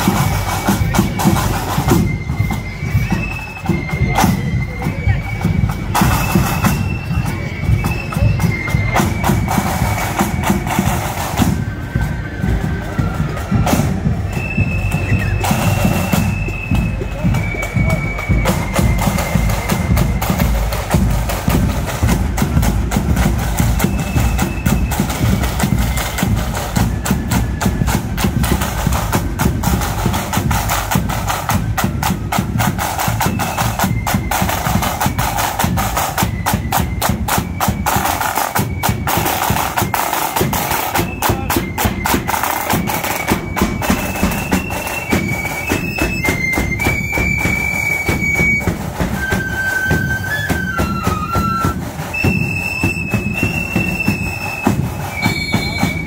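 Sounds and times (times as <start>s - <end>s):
flutes playing a tune: 0.0s - 56.0s
steady drum beat: 0.0s - 56.0s.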